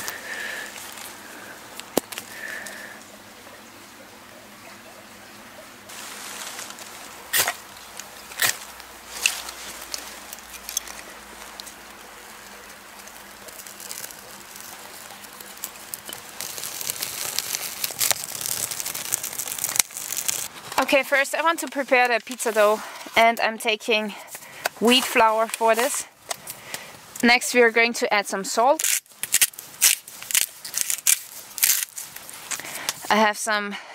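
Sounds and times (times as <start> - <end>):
kindling fire crackling: 0.0 - 3.5, 5.9 - 27.4, 28.5 - 33.1.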